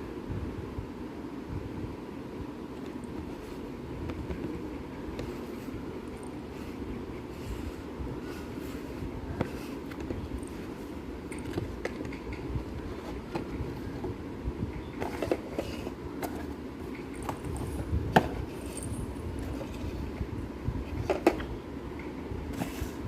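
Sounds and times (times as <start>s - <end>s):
steady low rumble: 0.0s - 22.6s.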